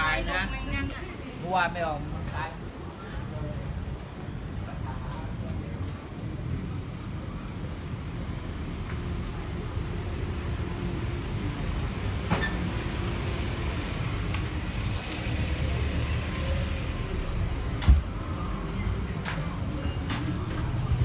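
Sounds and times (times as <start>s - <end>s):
urban traffic rumble: 0.0s - 21.0s.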